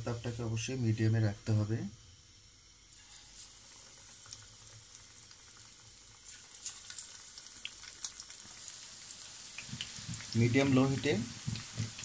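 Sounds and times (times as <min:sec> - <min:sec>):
chicken sizzling in hot oil: 0:00.0 - 0:00.8, 0:02.4 - 0:12.0.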